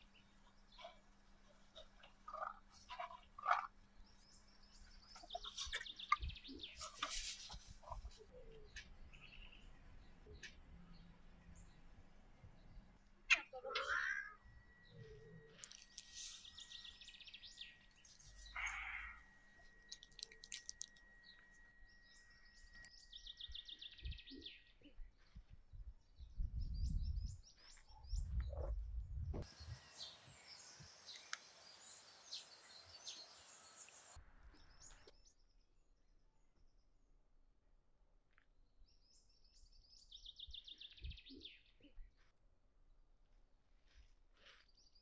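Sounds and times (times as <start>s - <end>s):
small birds chirping: 0.0s - 35.6s, 38.9s - 42.3s.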